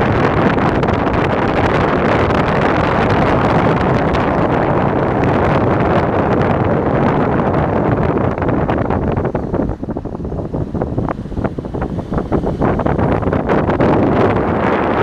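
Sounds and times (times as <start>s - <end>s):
tyre noise on road: 0.0s - 15.0s
wind buffeting microphone: 0.0s - 15.0s.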